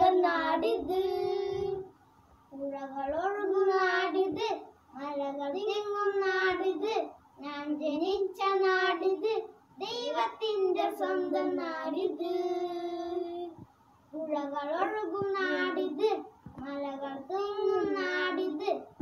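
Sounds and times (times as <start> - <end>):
child singing: 0.0 - 1.9, 2.5 - 13.6, 14.2 - 19.0.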